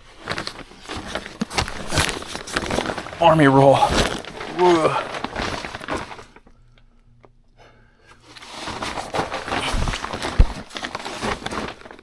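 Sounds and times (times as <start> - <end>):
person crawling on floor: 0.0 - 6.4, 8.2 - 12.0.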